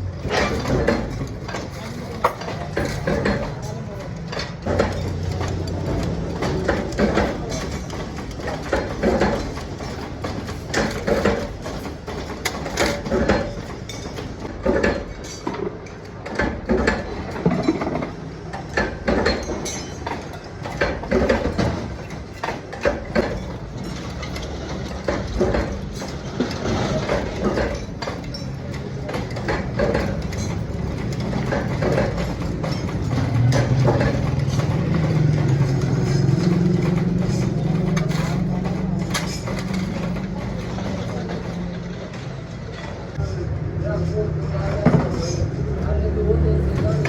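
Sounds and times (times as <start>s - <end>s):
mechanical clanks and clicks: 0.0s - 43.3s, 44.1s - 47.0s
machinery humming: 0.0s - 47.0s.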